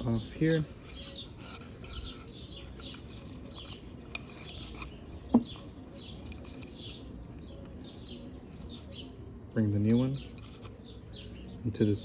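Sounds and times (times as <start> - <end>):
birds chirping: 0.0 - 12.0
soft rubbing and handling: 0.4 - 7.6, 8.4 - 11.3.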